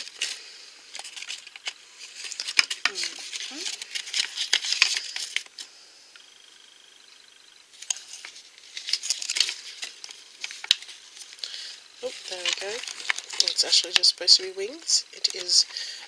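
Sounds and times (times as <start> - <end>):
plastic packaging crinkling: 0.0 - 5.6, 7.7 - 16.0.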